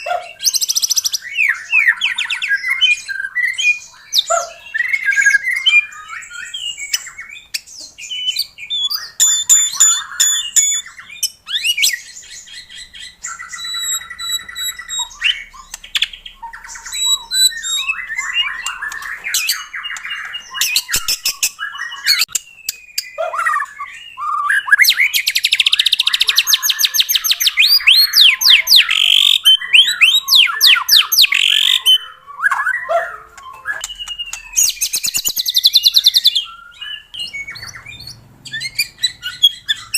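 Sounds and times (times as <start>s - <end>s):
songbird singing varied whistles: 0.0s - 39.9s.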